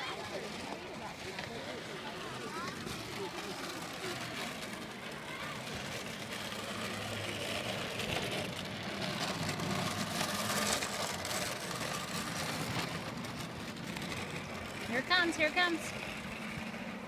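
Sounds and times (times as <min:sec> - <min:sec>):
low motor hum: 0:00.0 - 0:17.0
outdoor background noise: 0:00.0 - 0:17.0.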